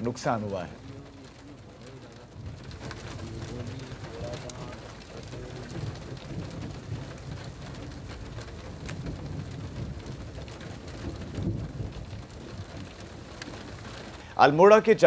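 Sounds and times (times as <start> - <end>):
drops ticking: 0.0 - 14.4
rain falling: 0.0 - 15.0.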